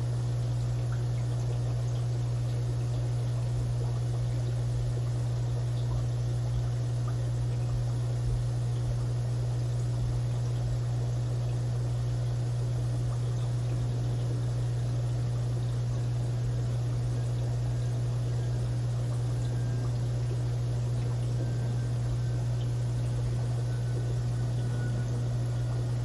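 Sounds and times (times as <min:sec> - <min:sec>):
aquarium pump hum: 0:00.0 - 0:26.0
water trickling: 0:00.1 - 0:26.0.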